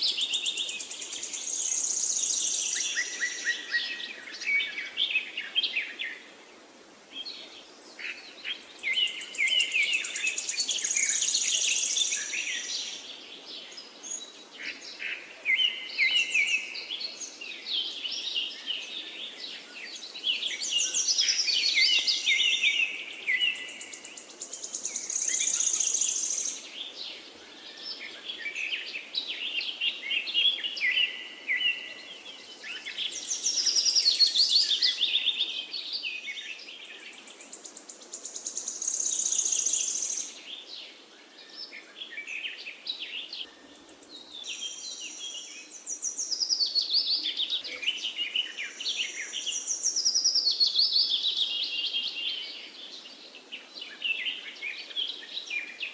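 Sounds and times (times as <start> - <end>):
songbirds singing and chirping: 0.0 - 55.9.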